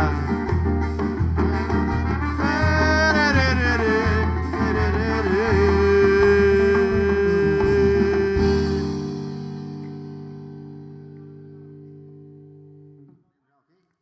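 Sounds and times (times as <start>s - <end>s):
live band music: 0.0s - 12.8s.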